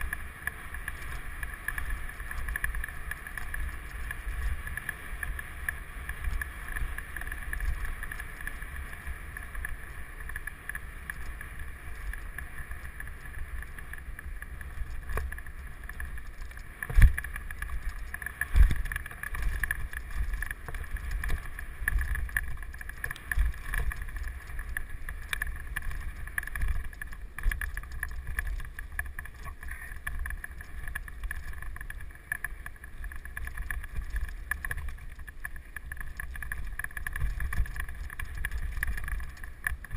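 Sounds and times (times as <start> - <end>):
bike rattling on dirt: 0.0 - 39.9.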